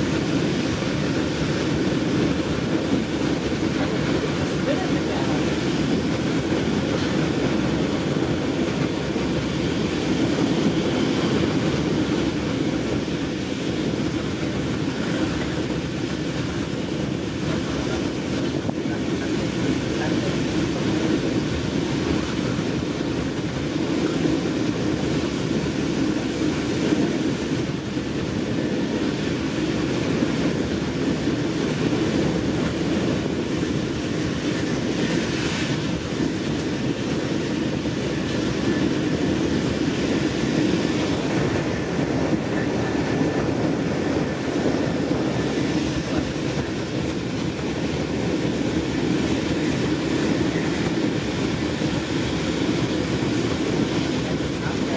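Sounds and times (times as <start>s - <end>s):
train wheels rolling on rails: 0.0s - 54.9s.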